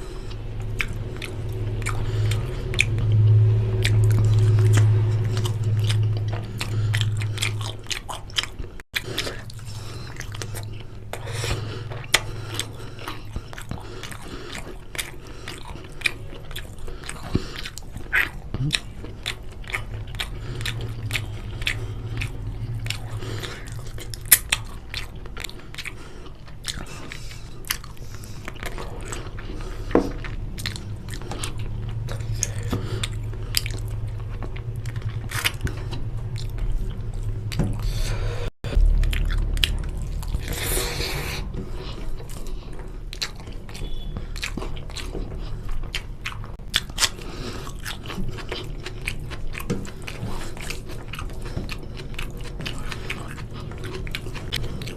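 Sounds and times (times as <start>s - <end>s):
chewing and biting: 0.0s - 54.9s
steady low hum: 0.0s - 54.9s.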